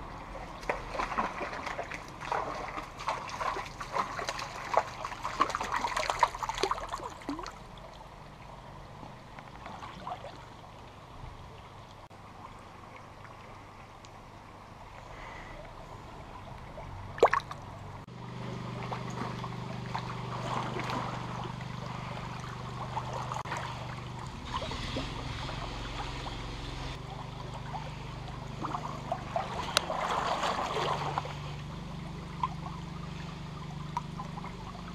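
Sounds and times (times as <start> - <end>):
water splashing: 0.0 - 14.2, 15.8 - 34.9
river water trickling: 0.0 - 34.9.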